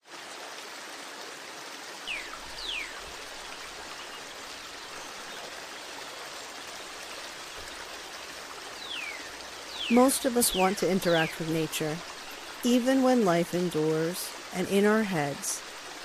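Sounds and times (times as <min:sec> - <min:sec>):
stream flowing: 0:00.0 - 0:16.0.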